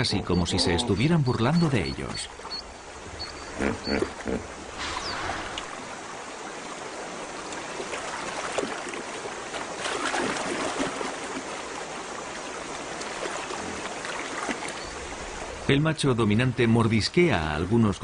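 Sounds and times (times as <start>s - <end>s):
water splashing and sloshing: 0.0s - 17.9s.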